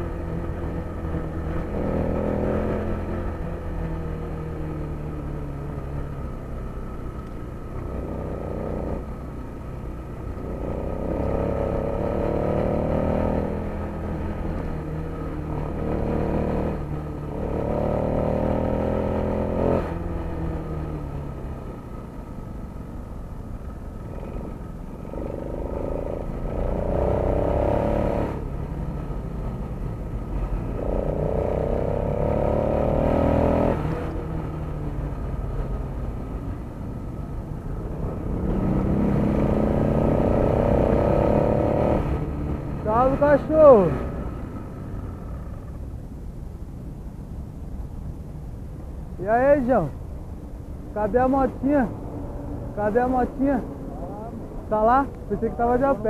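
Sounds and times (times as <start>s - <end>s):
vehicle engine accelerating: 0.0s - 22.4s, 23.7s - 45.8s, 49.2s - 56.0s
street traffic rumble: 0.0s - 56.0s.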